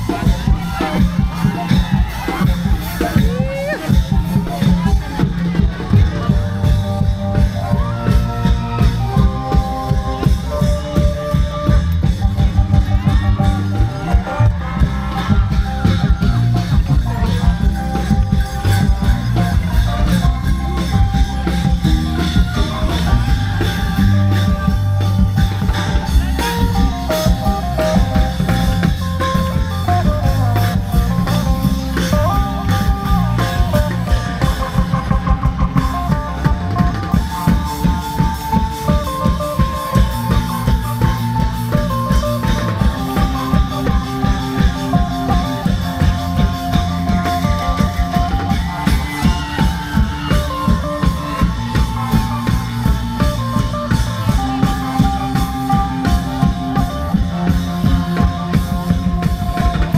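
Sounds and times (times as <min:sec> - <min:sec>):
long drums playing steady beat: 0:00.0 - 0:59.9
melody over drums: 0:00.0 - 0:59.9.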